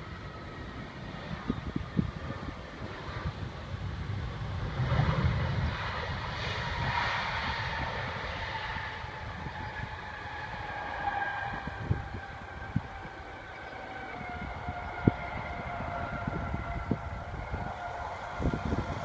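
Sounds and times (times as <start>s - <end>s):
jet engines whining: 0.0s - 19.0s
low rumble: 0.0s - 19.0s.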